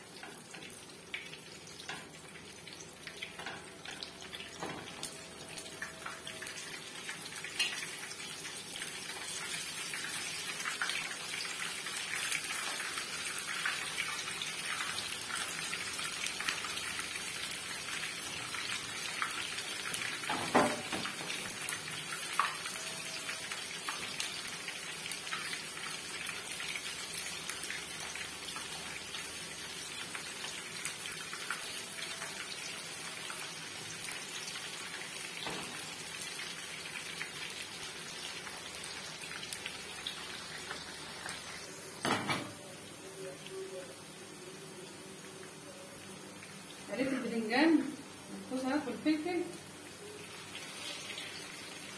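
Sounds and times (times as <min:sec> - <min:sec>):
slices sizzling in hot oil: 0:00.0 - 0:51.9.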